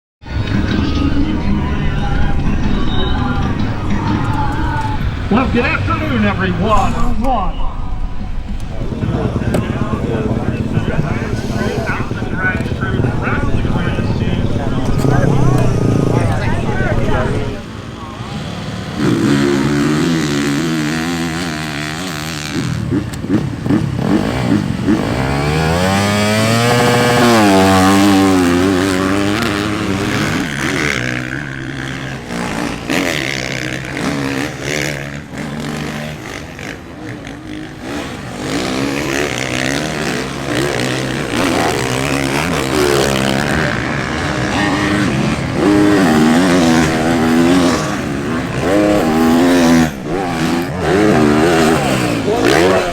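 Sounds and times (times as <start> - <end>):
motocross bikes revving: 0.2 - 52.9.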